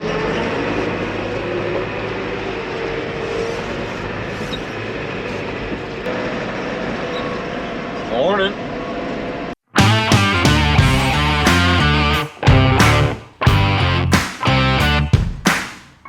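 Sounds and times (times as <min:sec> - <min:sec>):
farm machinery engine running: 0:00.0 - 0:14.7.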